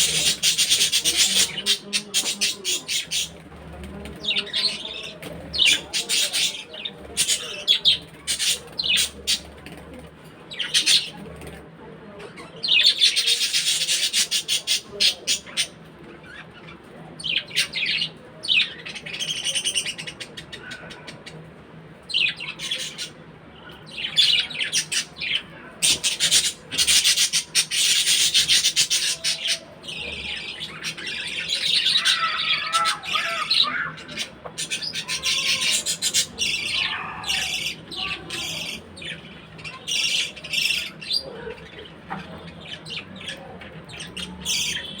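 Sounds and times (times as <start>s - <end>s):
budgerigars chattering and chirping: 0.0s - 9.6s, 10.5s - 11.5s, 12.2s - 21.4s, 22.1s - 23.2s, 23.8s - 45.0s.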